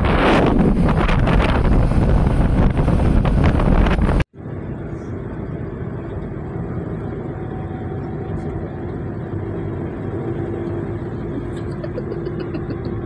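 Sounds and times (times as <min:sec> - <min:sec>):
wind buffeting microphone: 0:00.0 - 0:11.8
car drone from inside cabin: 0:00.0 - 0:13.0
motorcycle low rumble: 0:00.0 - 0:13.0.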